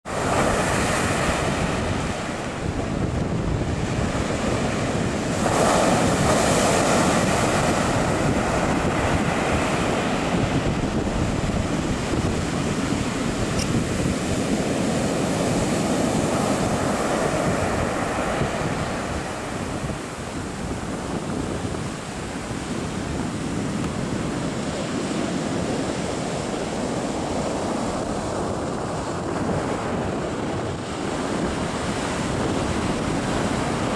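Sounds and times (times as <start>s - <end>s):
ocean surf breaking: 0.1s - 33.9s
wind buffeting microphone: 0.1s - 33.9s.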